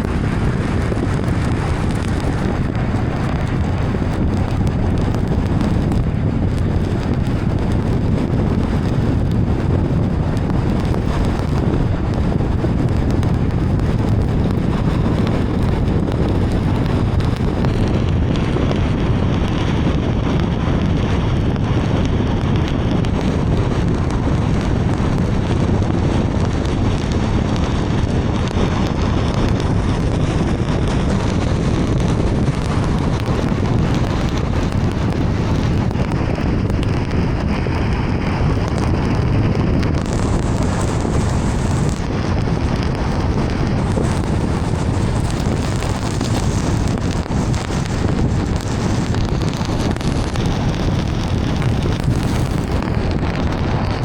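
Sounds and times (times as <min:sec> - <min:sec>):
car road noise: 0:00.0 - 0:54.0
heavy rain: 0:00.0 - 0:54.0.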